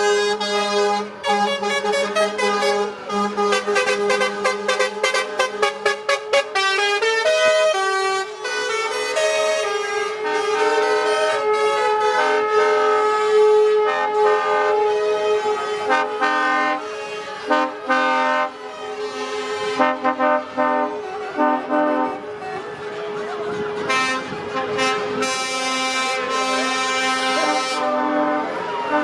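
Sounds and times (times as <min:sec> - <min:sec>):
truck air horns: 0:00.0 - 0:29.0.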